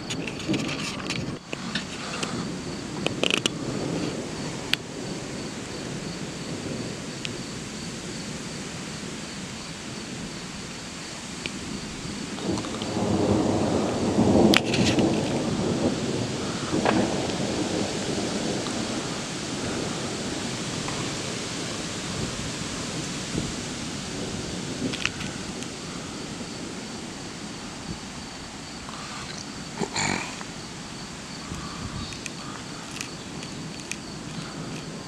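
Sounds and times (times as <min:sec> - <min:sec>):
insect trill: 0:00.0 - 0:35.0
steady hiss: 0:00.0 - 0:35.0
thunder rumbling: 0:00.0 - 0:35.0.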